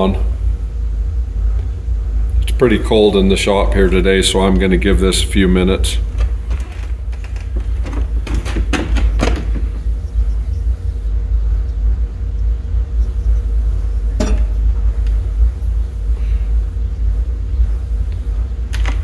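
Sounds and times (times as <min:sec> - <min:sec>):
faint constant hum: 0:00.0 - 0:19.0
shop room rumble: 0:00.0 - 0:19.0.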